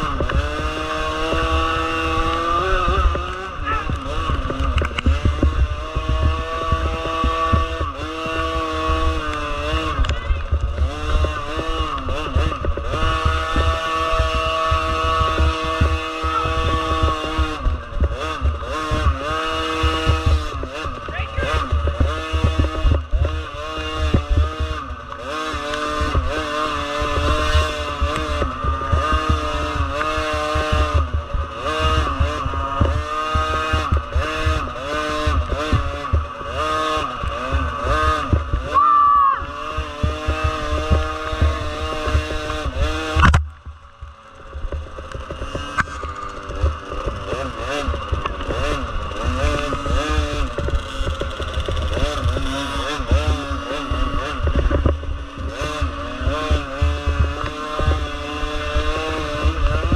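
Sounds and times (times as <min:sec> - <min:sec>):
small motorcycle engine revving: 0:00.0 - 0:59.9.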